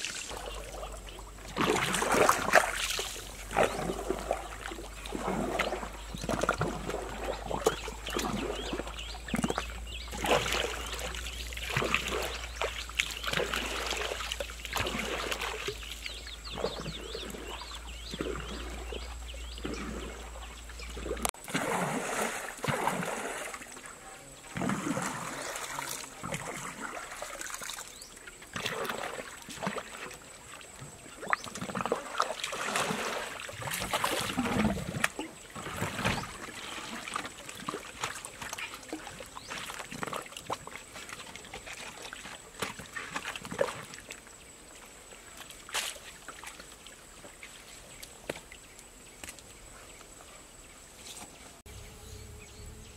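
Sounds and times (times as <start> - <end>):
water trickling over bamboo: 0.0 - 50.4
paddle splashing river water: 0.0 - 51.8.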